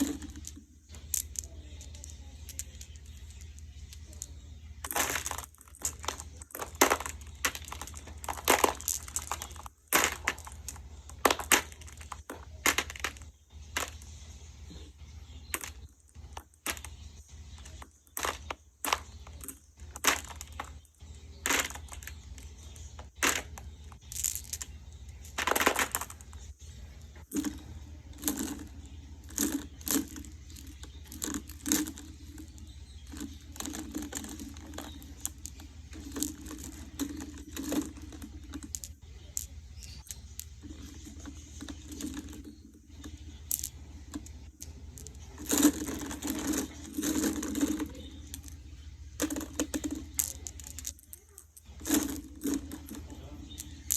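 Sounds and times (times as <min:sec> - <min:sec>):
glass marbles clicking: 0:00.0 - 0:14.2, 0:15.4 - 0:53.9
marbles rolling together: 0:00.0 - 0:53.9.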